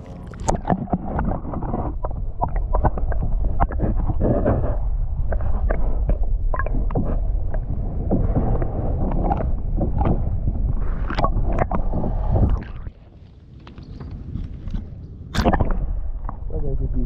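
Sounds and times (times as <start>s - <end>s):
wind rumbling across microphone: 0.0s - 17.0s.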